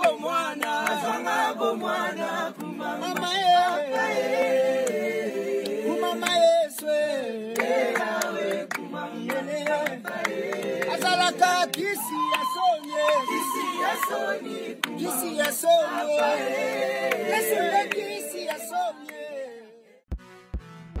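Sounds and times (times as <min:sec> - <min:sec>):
a cappella group singing: 0:00.0 - 0:20.1.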